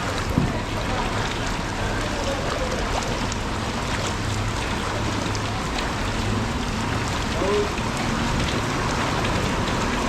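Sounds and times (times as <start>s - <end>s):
heavy rain on a flooded street: 0.0s - 10.0s.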